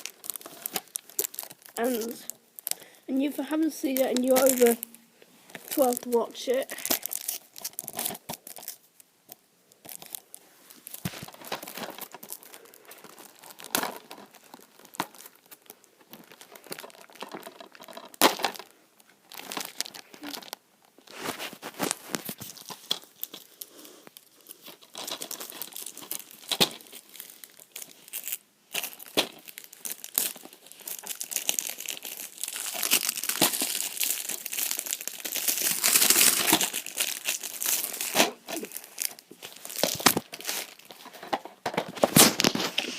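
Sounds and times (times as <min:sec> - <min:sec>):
plastic wrapping crinkling: 0:00.0 - 0:42.9.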